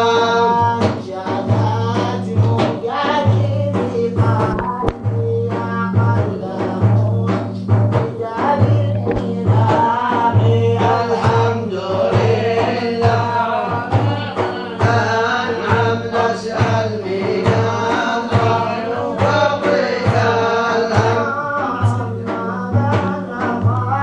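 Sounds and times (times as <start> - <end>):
low rhythmic accompaniment: 0.0 - 24.0
man singing devotional song: 0.0 - 24.0.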